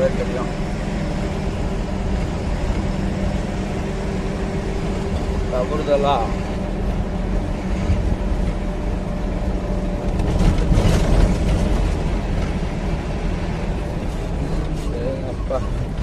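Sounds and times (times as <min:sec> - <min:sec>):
diesel engine rumble: 0:00.0 - 0:16.0
road noise: 0:00.0 - 0:16.0
truck knocking and rattling: 0:00.7 - 0:16.0.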